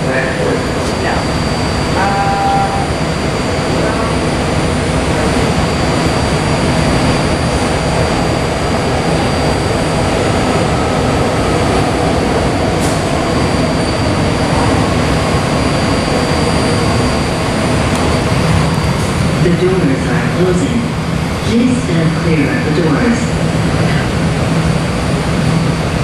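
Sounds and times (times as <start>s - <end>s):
train whirring at station: 0.0s - 26.0s.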